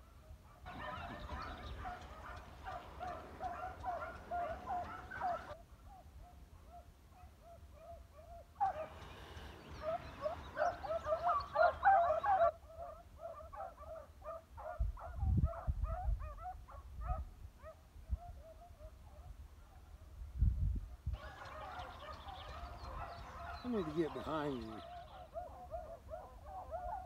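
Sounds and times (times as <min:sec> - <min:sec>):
beagles baying and yelping: 0:00.5 - 0:19.8, 0:21.2 - 0:27.0.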